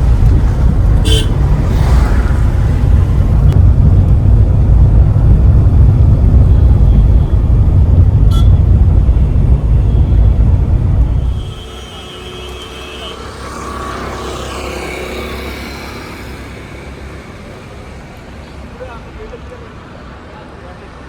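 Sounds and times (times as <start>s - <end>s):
car road and wind rumble: 0.0s - 21.0s.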